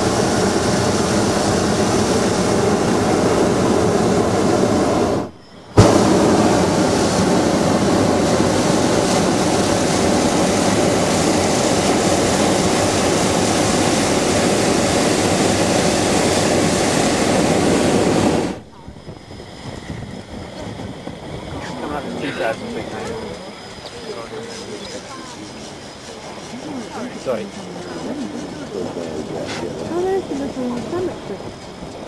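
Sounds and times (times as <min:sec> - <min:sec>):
propane burner rushing: 0:00.0 - 0:32.0.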